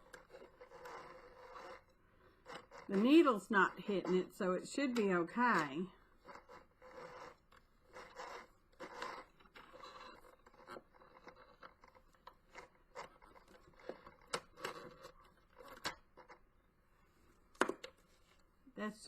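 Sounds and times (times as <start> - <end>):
handling scrapes: 0.0 - 16.4.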